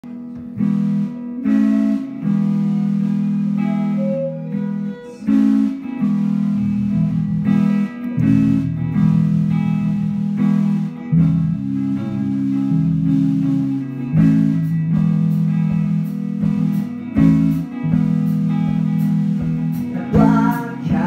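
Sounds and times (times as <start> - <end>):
drums: 0.0 - 21.0
electric guitars playing chords: 0.0 - 21.0.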